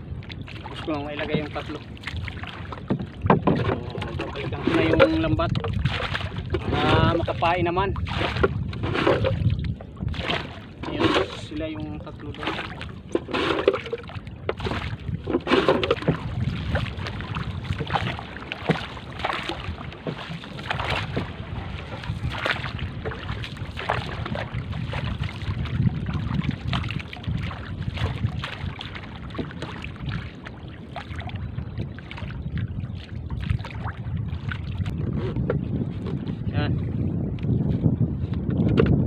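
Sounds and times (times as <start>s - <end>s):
water lapping at hull: 0.0s - 39.0s
wind buffeting microphone: 0.0s - 39.0s
paddle strokes splashing: 0.2s - 35.5s.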